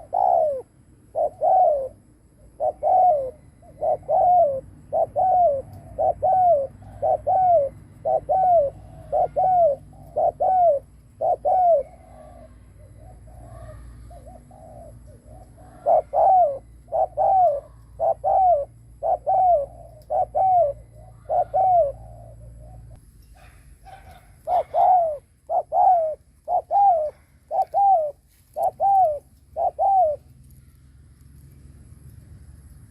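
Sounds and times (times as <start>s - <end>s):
dove cooing: 0.0s - 30.8s.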